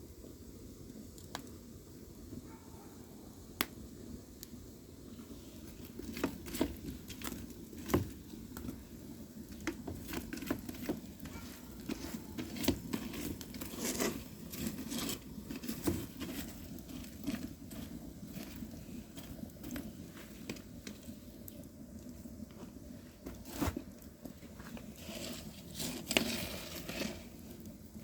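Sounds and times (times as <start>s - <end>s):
firewood crackling and popping: 0.0s - 2.5s, 3.4s - 28.0s
flames rushing: 4.1s - 28.0s.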